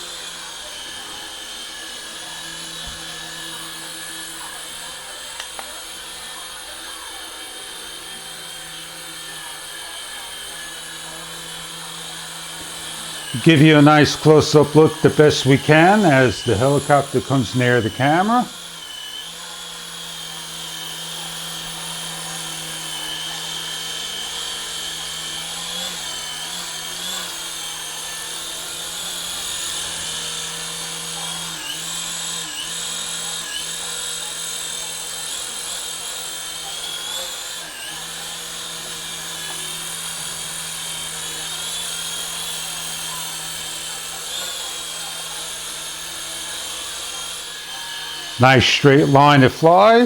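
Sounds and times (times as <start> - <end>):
toy helicopter rotors whirring: 0.0 - 48.4.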